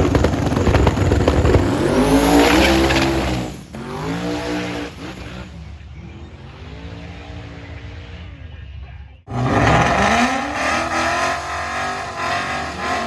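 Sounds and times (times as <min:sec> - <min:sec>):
race car accelerating hard: 0:00.1 - 0:08.3, 0:09.3 - 0:13.0.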